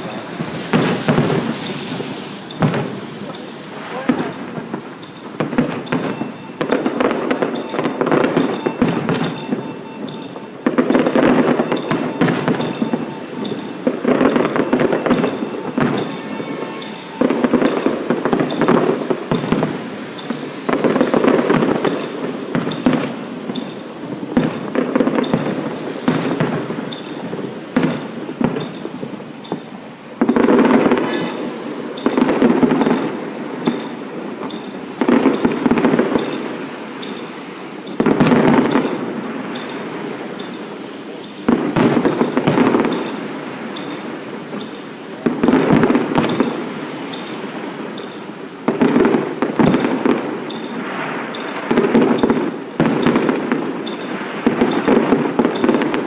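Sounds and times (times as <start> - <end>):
fireworks crackling and bangs: 0.0 - 56.0.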